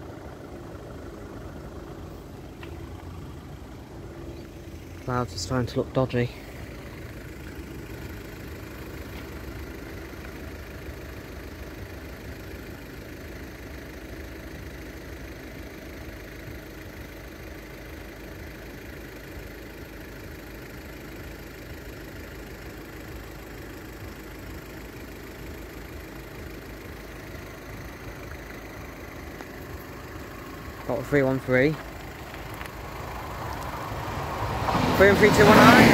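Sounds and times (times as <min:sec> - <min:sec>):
engines idling: 0:00.0 - 0:35.9.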